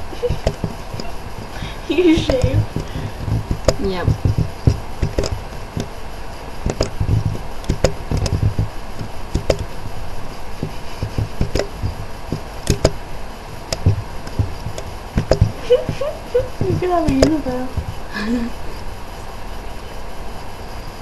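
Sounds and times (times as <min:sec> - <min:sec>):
irregular clicks and knocks: 0:00.0 - 0:06.0, 0:06.6 - 0:18.1
low thuds: 0:00.0 - 0:06.0, 0:06.6 - 0:18.2.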